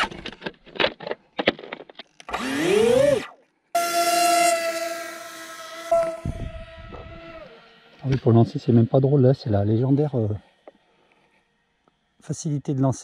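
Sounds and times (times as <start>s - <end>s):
drone motors whining: 2.2s - 13.0s.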